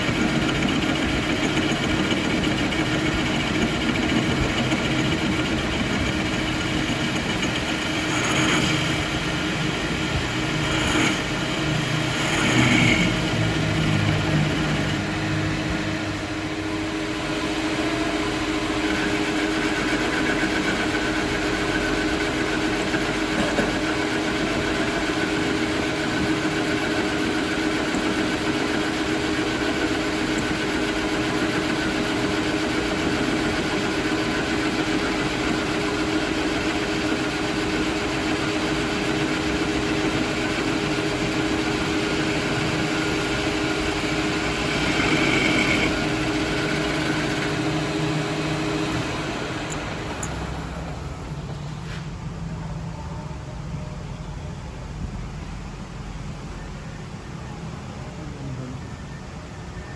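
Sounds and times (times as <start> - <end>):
high machine squeal: 0.0 - 22.6, 23.7 - 51.6
workshop machine humming: 0.0 - 59.8.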